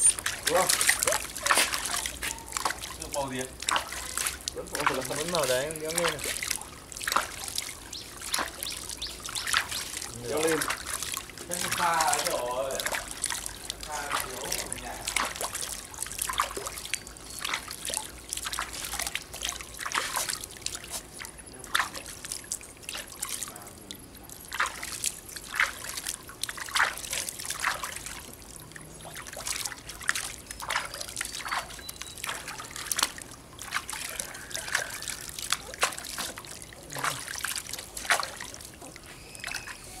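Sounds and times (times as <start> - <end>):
water splashing in a plastic basin: 0.0 - 40.0
water streaming into a basin: 0.0 - 40.0.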